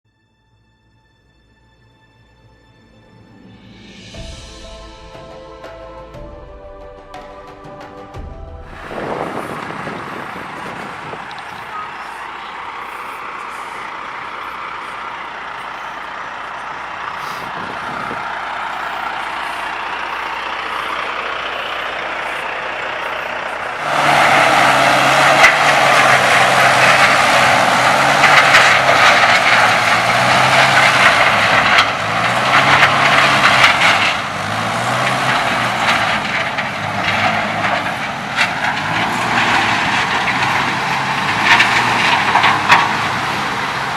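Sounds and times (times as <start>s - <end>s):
heavy truck engine running: 2.5s - 43.9s
strong rushing noise: 8.1s - 43.9s.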